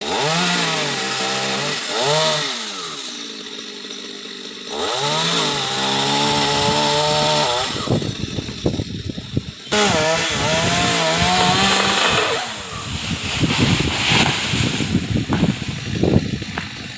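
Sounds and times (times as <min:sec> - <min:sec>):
chainsaw engine at high revs: 0:00.0 - 0:16.9.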